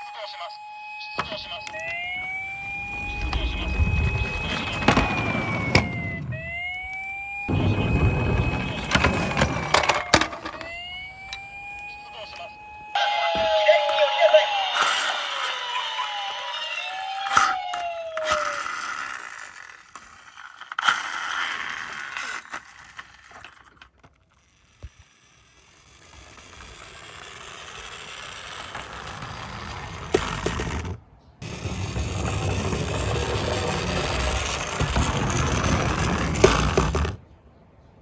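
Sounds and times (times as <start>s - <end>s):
toy cars scraping and rattling: 1.2s - 37.2s.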